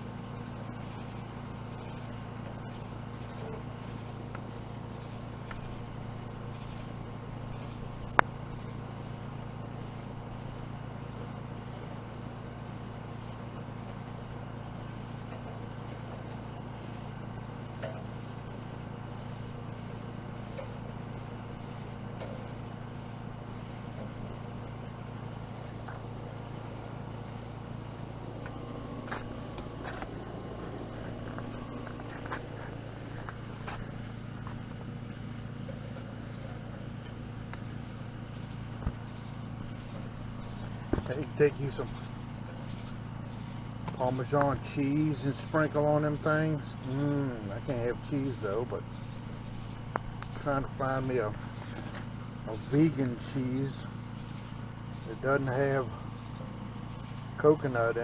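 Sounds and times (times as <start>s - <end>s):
insect chorus: 0.0s - 58.0s
low steady hum: 0.0s - 58.0s.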